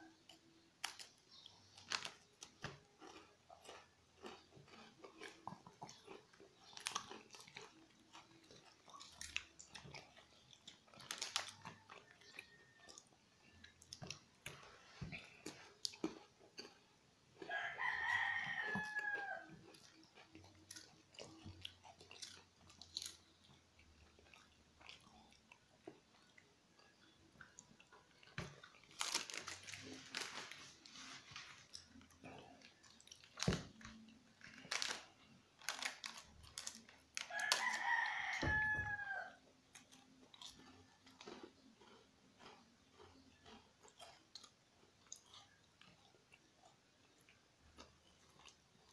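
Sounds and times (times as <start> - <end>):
dog crunching a cracker: 0.4 - 14.7, 17.4 - 26.4, 27.2 - 38.7, 39.7 - 48.9.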